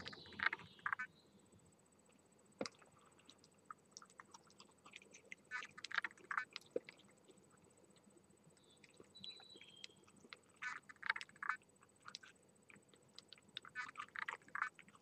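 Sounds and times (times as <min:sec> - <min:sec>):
fox chewing food: 0:02.6 - 0:15.0.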